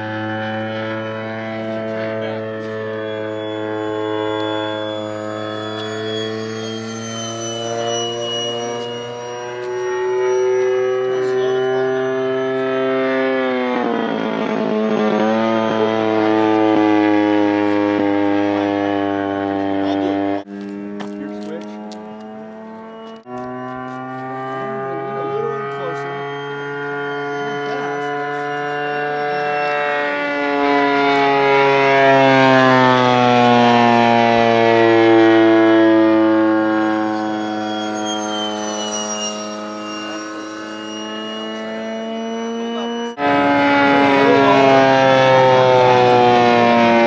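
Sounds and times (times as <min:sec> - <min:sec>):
model airplane engine droning: 0:00.0 - 0:47.0.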